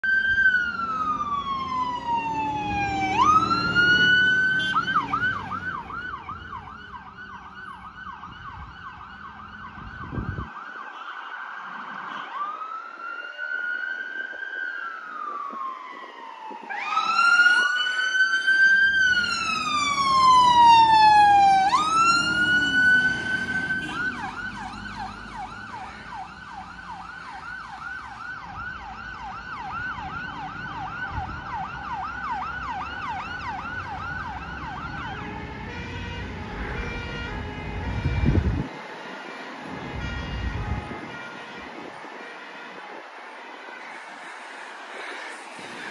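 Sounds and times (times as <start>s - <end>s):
fire engine sirens wailing: 0.0s - 45.9s.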